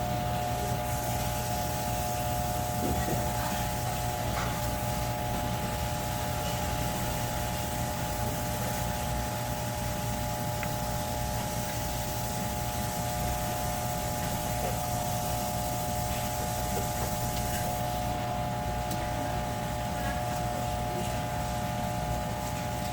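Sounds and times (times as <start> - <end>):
machine hum with whine: 0.0 - 22.9.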